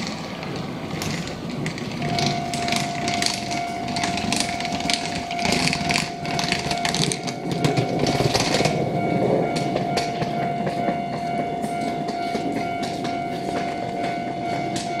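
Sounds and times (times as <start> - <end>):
electric train rumbling: 0.0 - 15.0
high whine: 0.0 - 15.0
wheels clicking over rail joints: 0.0 - 15.0.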